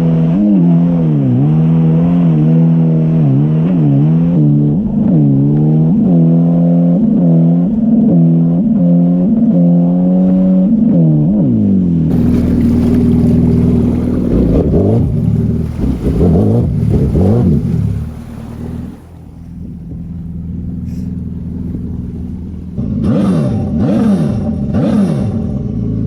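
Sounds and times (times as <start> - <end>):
jet ski engine revving: 0.0 - 26.0.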